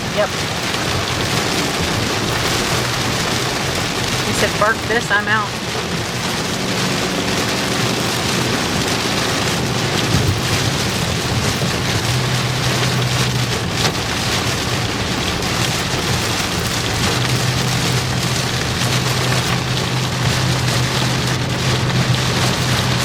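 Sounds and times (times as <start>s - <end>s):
engine and road hum: 0.0s - 23.0s
heavy rain on vehicle: 0.0s - 23.0s.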